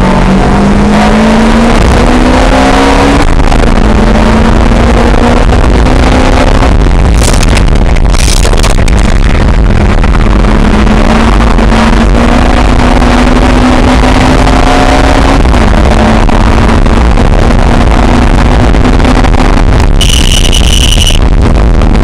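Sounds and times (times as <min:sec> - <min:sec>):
sports car engine under load: 0:00.0 - 0:22.0
wind noise on microphone: 0:00.0 - 0:22.0.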